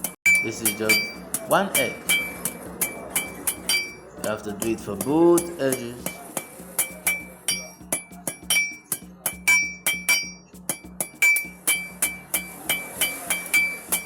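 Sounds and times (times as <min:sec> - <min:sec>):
hammer striking metal on anvil: 0:00.0 - 0:14.0.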